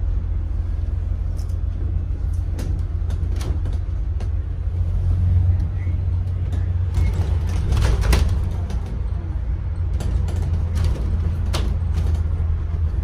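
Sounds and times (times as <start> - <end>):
bus engine and road rumble: 0.0 - 13.0
bus fittings rattling and clicking: 1.2 - 4.8, 5.6 - 13.0.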